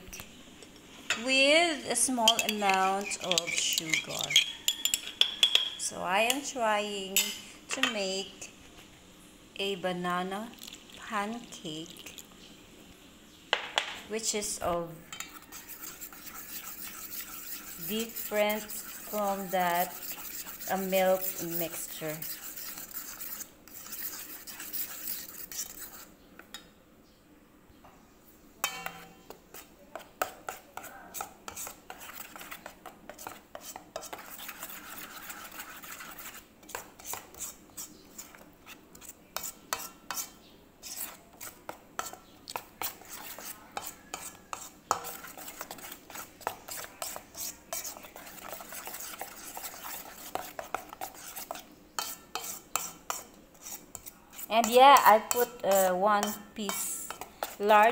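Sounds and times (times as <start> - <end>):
utensil stirring batter in bowl: 0.1 - 8.5, 13.8 - 26.6, 28.6 - 57.9.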